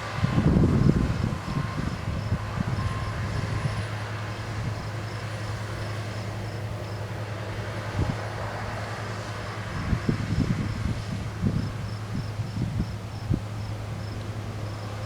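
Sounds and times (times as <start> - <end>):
farm machinery engine drone: 0.0 - 15.0.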